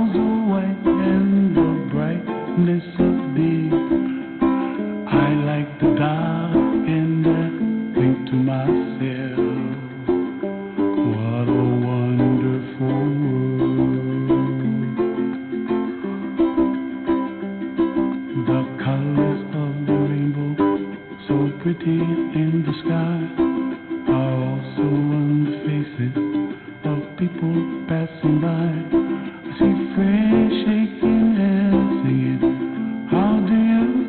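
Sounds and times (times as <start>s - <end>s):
person softly singing: 0.0s - 10.2s, 11.0s - 15.1s, 18.2s - 34.0s
strummed ukulele: 0.0s - 34.0s.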